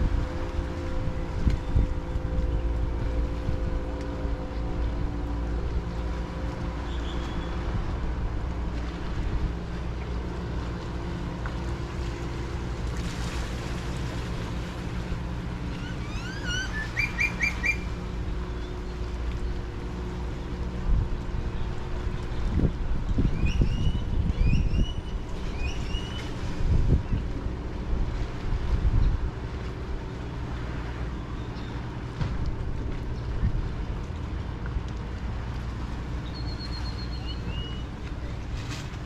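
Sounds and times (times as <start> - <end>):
boat engine humming: 0.0 - 39.0
wind rumble on microphone: 0.0 - 39.0.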